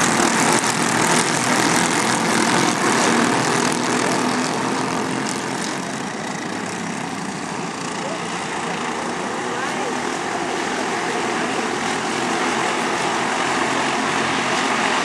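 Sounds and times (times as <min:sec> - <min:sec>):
racing kart engine running hard: 0:00.0 - 0:15.0.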